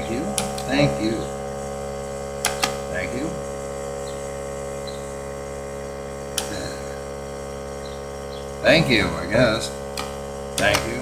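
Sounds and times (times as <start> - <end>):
air compressor humming: 0.0 - 11.0.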